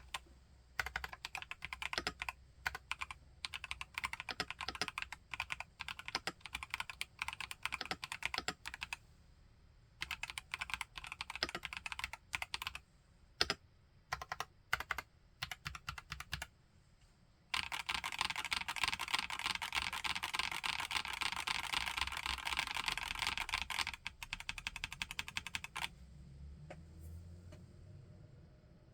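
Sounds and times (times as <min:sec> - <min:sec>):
mechanical keyboard typing: 0:00.0 - 0:09.0, 0:10.0 - 0:12.8, 0:13.4 - 0:16.5, 0:17.5 - 0:25.9.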